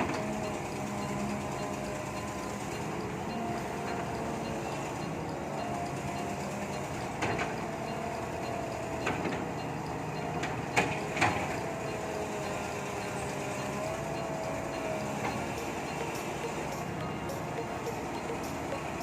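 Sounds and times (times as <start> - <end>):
machine running noise: 0.0 - 19.0.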